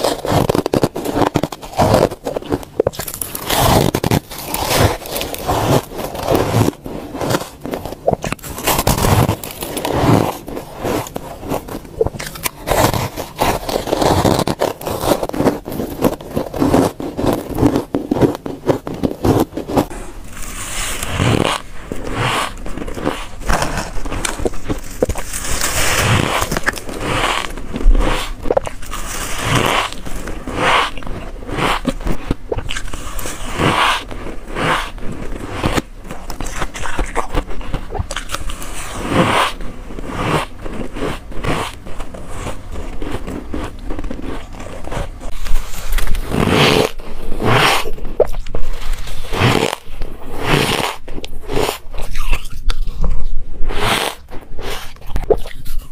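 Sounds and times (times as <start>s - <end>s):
teeth crunching frost: 0.0s - 55.9s.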